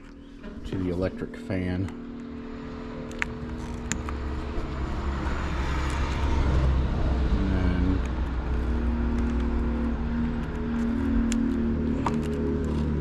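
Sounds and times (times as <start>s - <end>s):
road traffic rumble: 0.0s - 13.0s
vehicle passing: 0.6s - 13.0s.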